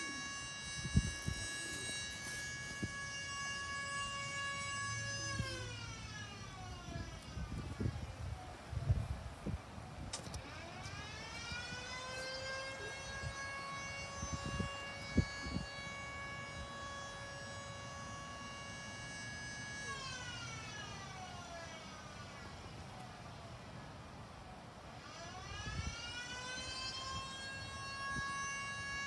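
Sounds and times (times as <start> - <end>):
siren wailing: 0.0 - 8.7, 10.2 - 22.9, 25.0 - 29.0.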